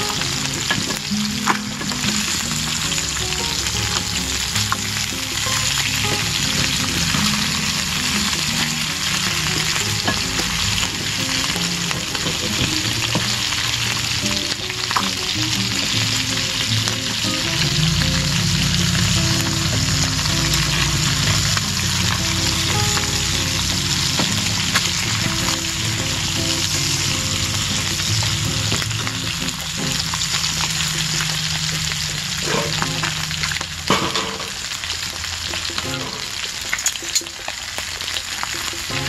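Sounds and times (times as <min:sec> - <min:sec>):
sizzle of hot fat: 0:00.0 - 0:39.0.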